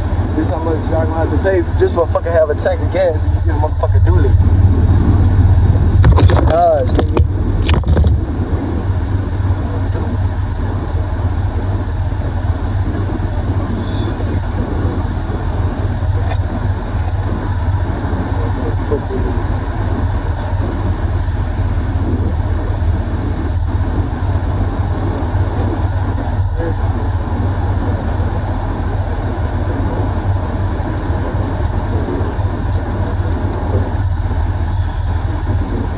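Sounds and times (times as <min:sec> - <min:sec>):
pickup truck rumble: 0:00.0 - 0:35.9.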